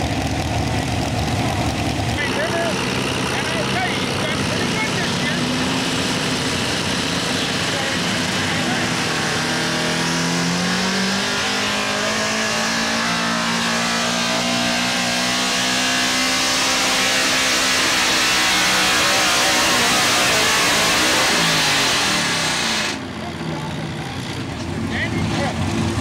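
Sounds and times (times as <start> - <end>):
truck engine at full throttle: 0.0 - 26.0.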